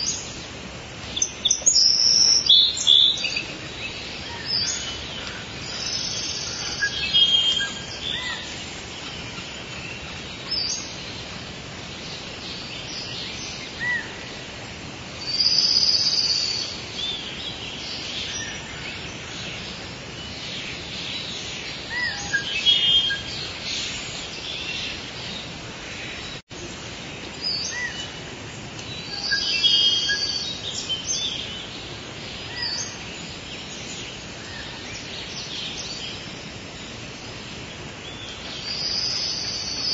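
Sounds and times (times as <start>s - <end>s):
forest background hiss: 0.0s - 39.9s
tropical birds calling: 0.0s - 39.9s.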